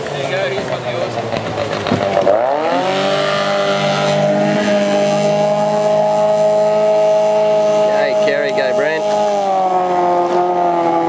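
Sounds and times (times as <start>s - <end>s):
outboard motor at high revs: 0.0s - 11.0s.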